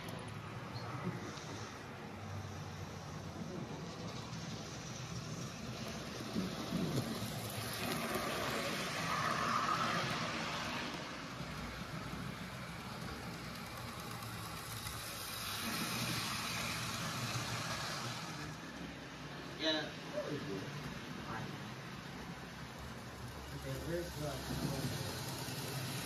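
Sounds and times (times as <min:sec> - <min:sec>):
model train rolling rumble: 0:00.0 - 0:26.0.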